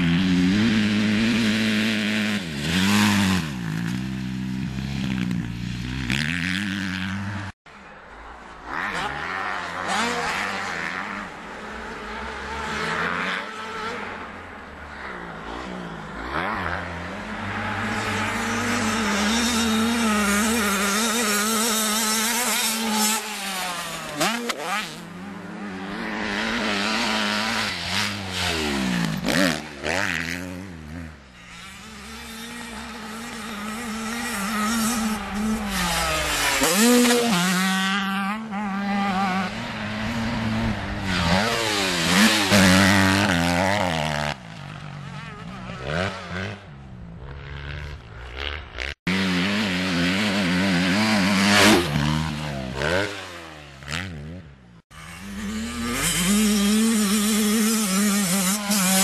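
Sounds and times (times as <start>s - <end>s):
motocross bikes revving past: 0.0s - 59.0s.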